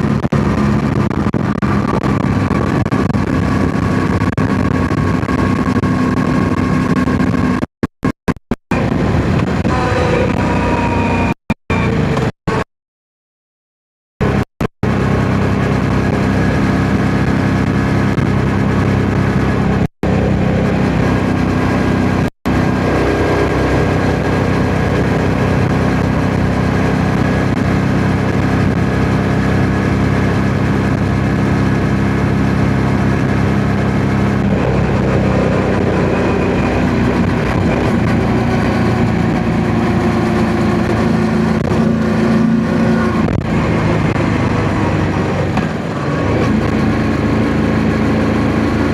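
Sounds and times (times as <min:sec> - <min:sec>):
wind noise on microphone: 0:00.0 - 0:07.7, 0:08.7 - 0:12.6, 0:14.2 - 0:48.9
motorcycle engine running: 0:00.0 - 0:12.6, 0:14.2 - 0:48.9.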